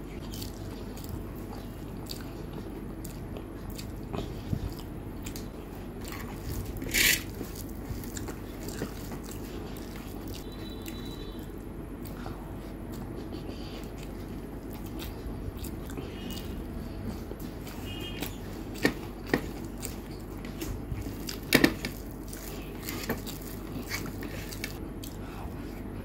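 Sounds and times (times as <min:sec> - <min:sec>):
low background hum: 0:00.0 - 0:26.0
chewing with mouth closed: 0:00.1 - 0:25.7
fingers mixing food on plate: 0:00.2 - 0:25.9.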